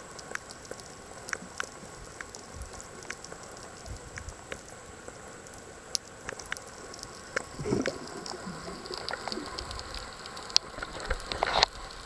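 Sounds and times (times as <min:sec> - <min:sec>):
underwater clicks and crackle: 0:00.0 - 0:12.0
underwater wash: 0:00.0 - 0:12.0.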